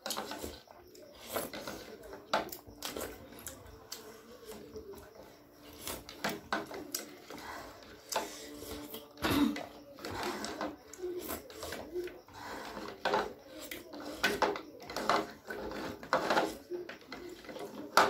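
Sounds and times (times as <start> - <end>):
low murmur of person: 0.0 - 18.0.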